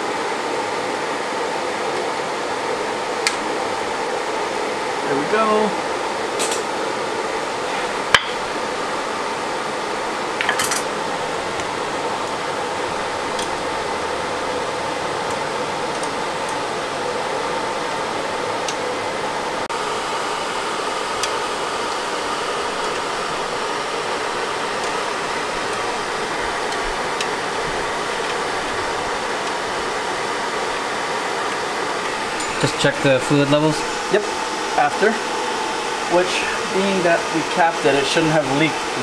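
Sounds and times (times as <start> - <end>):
blower fan whirring: 0.0 - 39.0.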